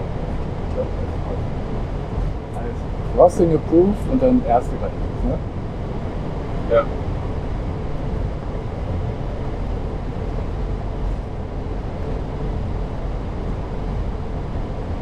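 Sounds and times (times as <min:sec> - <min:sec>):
aircraft taxiing rumble: 0:00.0 - 0:15.0
faint constant hum: 0:00.0 - 0:15.0.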